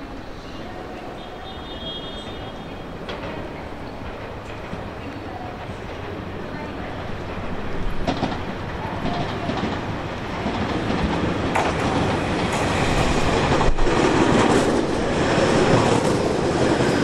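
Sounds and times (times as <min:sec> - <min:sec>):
train wheels clacking over rail joints: 0:03.0 - 0:17.0.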